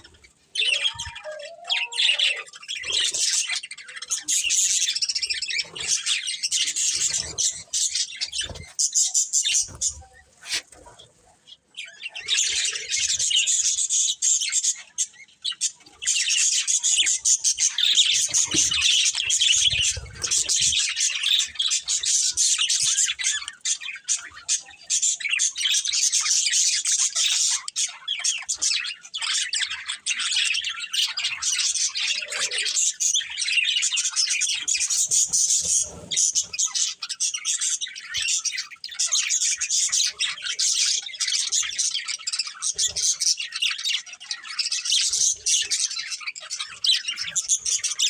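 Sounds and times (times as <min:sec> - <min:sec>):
budgerigars chattering: 0:00.0 - 0:11.2, 0:11.8 - 0:48.0.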